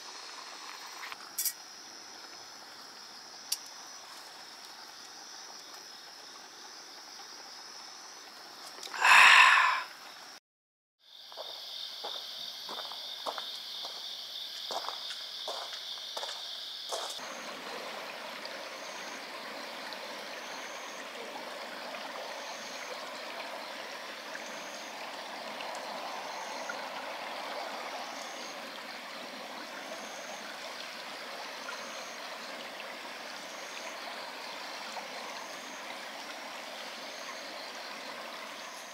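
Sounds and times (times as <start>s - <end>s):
river water running: 0.0s - 10.4s, 11.1s - 38.9s.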